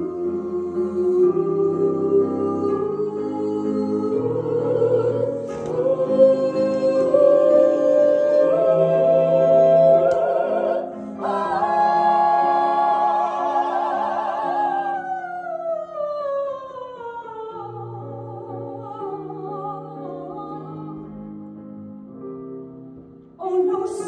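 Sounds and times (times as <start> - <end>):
soprano singing operatically: 0.0 - 21.0, 23.4 - 24.0.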